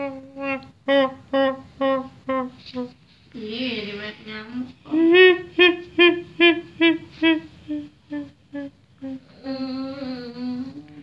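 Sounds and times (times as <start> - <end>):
person humming in pulses: 0.0 - 2.9, 4.9 - 11.0.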